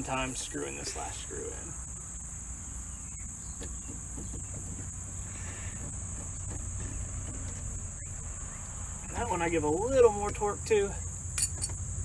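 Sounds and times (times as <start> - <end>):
crickets chirring: 0.0 - 12.0
low background rumble: 0.0 - 12.0.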